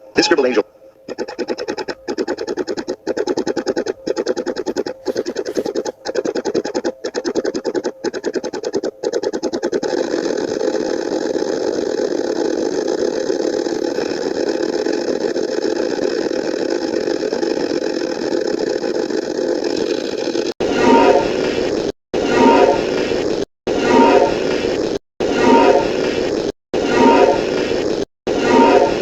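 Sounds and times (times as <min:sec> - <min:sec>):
engine running with fast pulse: 0:01.1 - 0:29.0.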